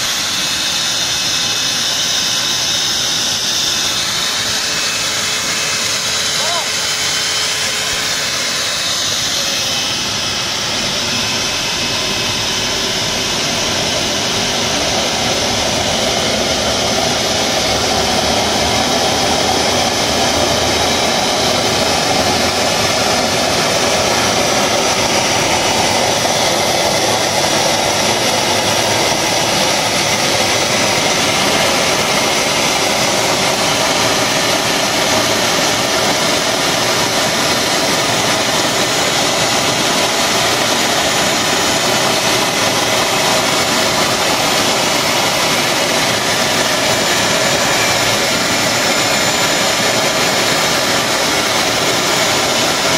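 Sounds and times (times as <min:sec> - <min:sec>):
jet engine roar with whine: 0:00.0 - 0:52.9.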